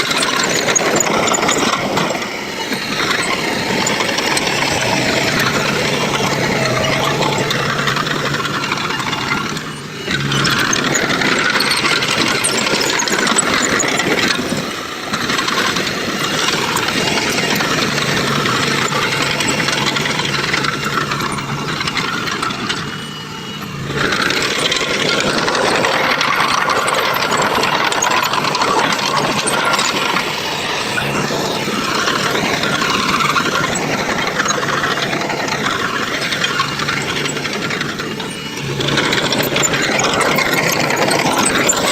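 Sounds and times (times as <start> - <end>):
construction machinery engines: 0.0 - 41.9.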